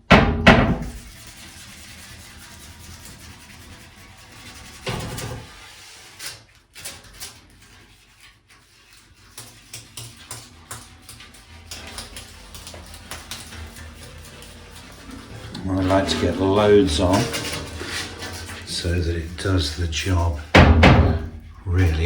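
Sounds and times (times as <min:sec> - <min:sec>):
brush scratching at seal: 0:00.8 - 0:22.0.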